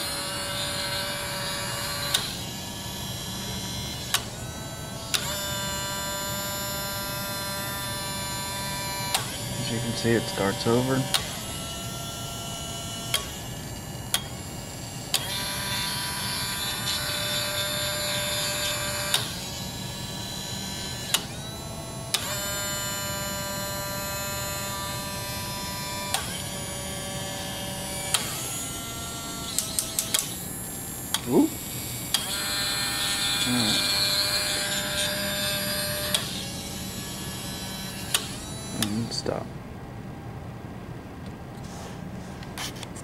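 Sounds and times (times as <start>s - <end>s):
small electric motors whining: 0.0s - 39.4s.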